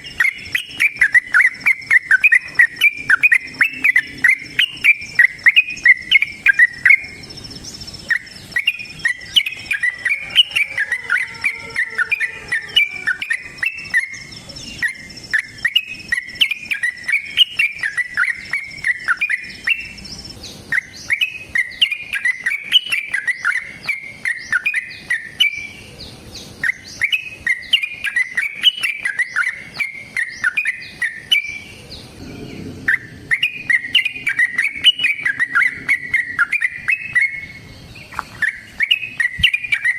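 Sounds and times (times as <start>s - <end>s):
bird singing bubbling chirps: 0.0s - 39.9s.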